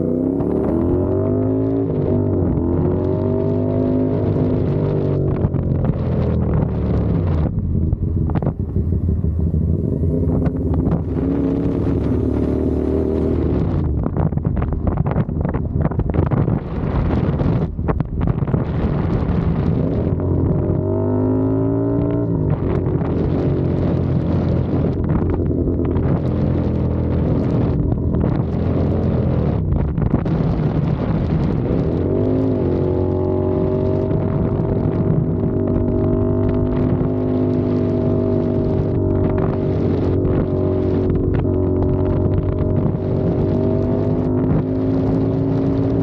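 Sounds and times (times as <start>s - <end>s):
motorcycle engine running: 0.0s - 46.0s
wind buffeting microphone: 0.0s - 46.0s.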